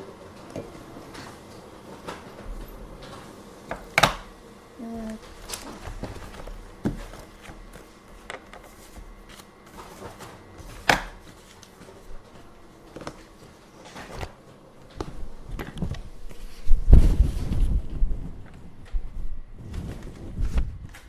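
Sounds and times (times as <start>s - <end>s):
handling noise: 0.0s - 21.0s.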